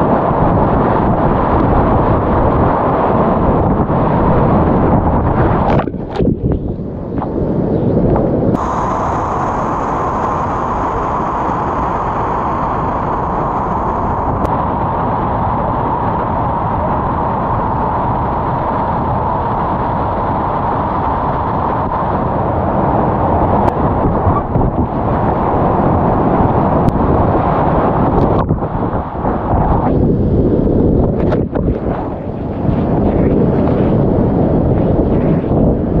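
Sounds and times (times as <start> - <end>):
whitewater rapid roaring: 0.0 - 30.4.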